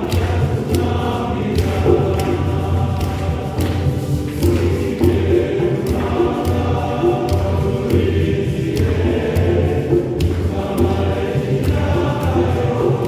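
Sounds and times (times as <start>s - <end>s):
choir singing church song: 0.0s - 13.0s
steady low beat: 0.0s - 13.0s.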